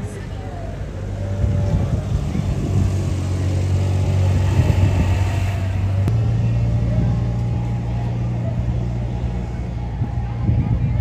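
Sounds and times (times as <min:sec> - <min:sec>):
faint street noise: 0:00.0 - 0:11.0
vehicle engine humming: 0:00.0 - 0:11.0.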